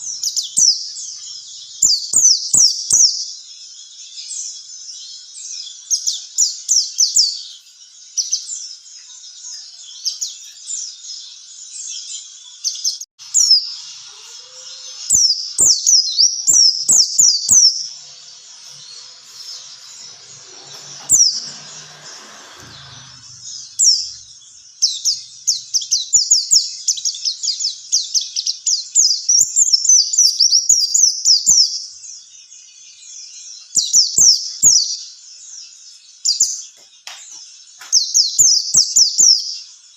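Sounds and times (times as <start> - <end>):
bird chirping high and thin: 0.0 - 39.7.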